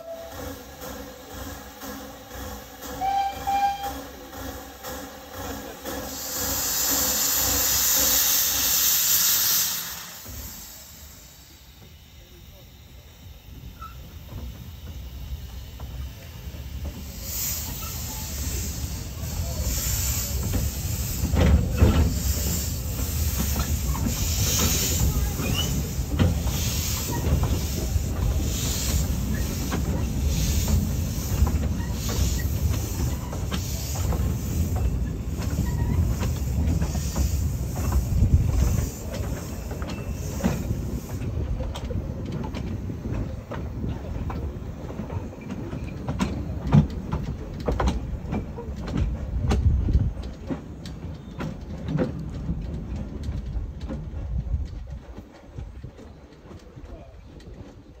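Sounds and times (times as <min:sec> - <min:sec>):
steam puffs hissing: 0:00.0 - 0:49.4
train wheels clicking over rails: 0:00.0 - 0:58.0.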